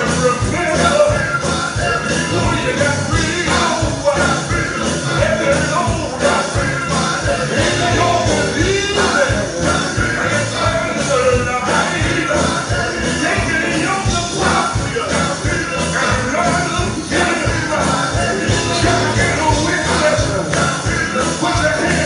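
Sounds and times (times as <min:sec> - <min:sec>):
drum kit beat: 0:00.0 - 0:22.0
electric guitar: 0:00.0 - 0:22.0
men singing in harmony: 0:00.0 - 0:22.0.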